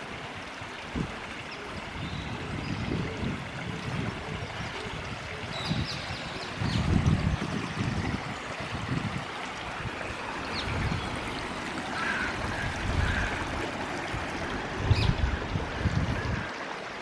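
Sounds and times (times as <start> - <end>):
flowing water rushing: 0.0 - 17.0
wind buffeting microphone: 0.8 - 17.0.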